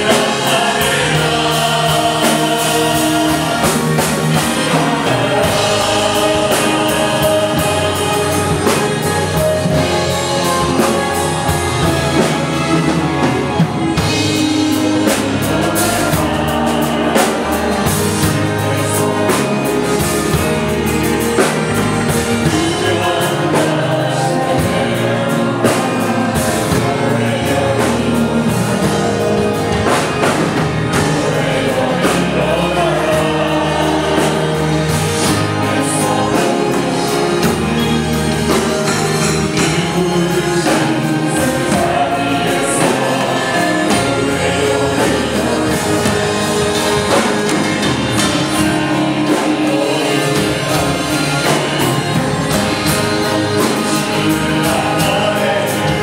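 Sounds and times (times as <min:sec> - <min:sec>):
acoustic guitar: 0:00.0 - 0:56.0
choir singing: 0:00.0 - 0:56.0
double bass: 0:00.0 - 0:56.0
drum kit: 0:00.0 - 0:56.0
lead vocalists singing: 0:00.0 - 0:56.0.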